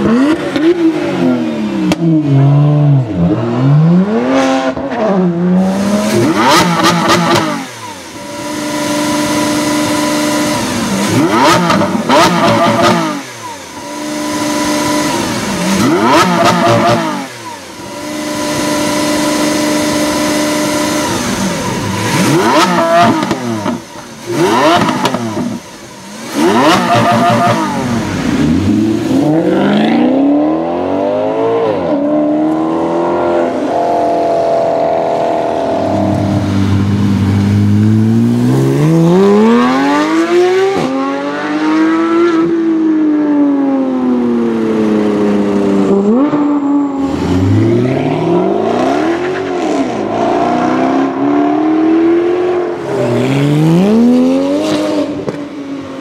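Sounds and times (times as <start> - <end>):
car engine accelerating: 0.0 - 56.0
car engine revving while stationary: 0.0 - 56.0.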